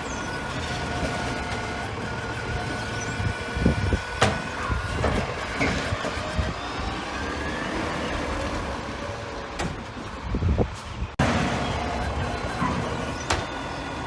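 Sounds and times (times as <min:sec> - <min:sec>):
garbage truck engine running: 0:00.0 - 0:14.0
hydraulic arm whining: 0:00.0 - 0:14.0.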